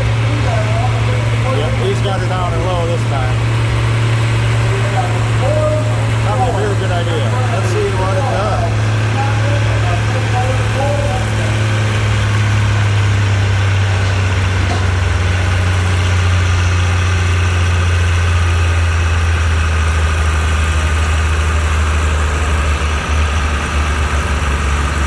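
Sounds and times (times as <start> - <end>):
tractor engine running under load: 0.0 - 25.0.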